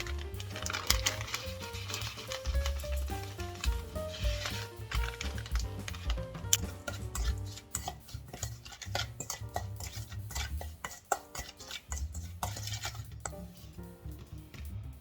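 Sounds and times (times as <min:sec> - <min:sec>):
utensil scraping a bowl: 0:00.0 - 0:13.8
light background music: 0:00.0 - 0:15.0.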